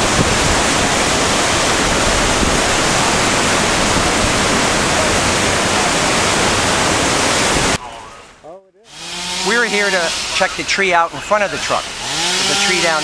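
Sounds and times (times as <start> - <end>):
floodwater rushing in a creek: 0.0 - 7.8, 8.9 - 13.0.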